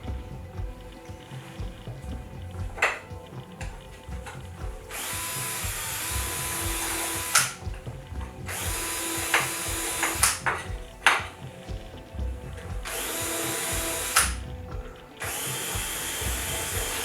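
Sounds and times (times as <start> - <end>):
power drill whining: 0.0 - 17.0.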